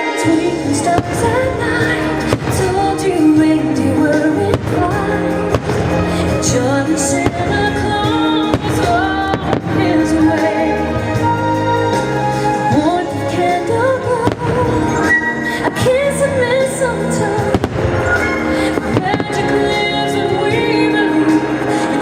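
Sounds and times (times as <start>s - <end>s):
music and singing: 0.0s - 22.0s
firework bangs: 0.5s - 11.4s, 13.7s - 21.6s.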